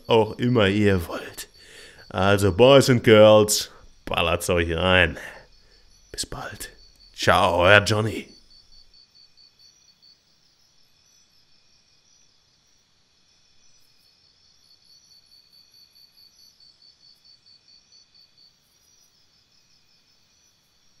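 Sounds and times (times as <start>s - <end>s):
insects chirping: 0.0s - 21.0s
low background hiss: 0.0s - 21.0s.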